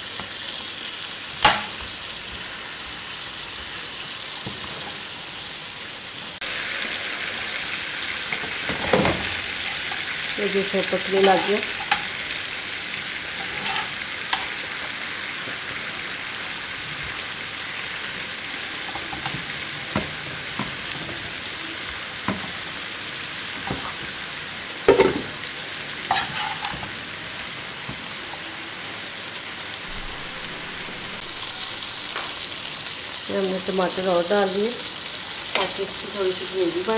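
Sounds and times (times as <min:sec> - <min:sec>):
chicken sizzling on a griddle: 0:00.0 - 0:36.9.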